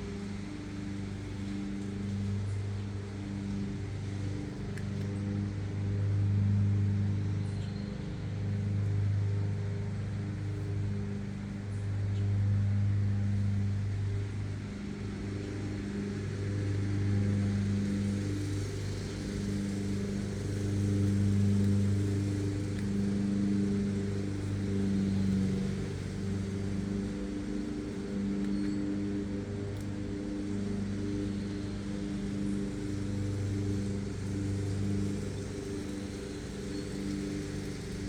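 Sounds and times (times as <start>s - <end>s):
lawn mower engine running: 0.0s - 38.0s.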